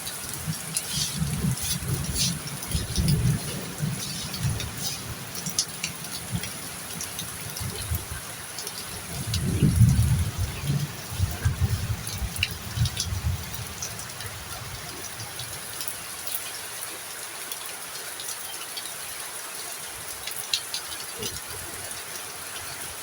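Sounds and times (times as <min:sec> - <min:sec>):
heavy rain falling: 0:00.0 - 0:23.0
raindrops ticking: 0:00.0 - 0:23.0.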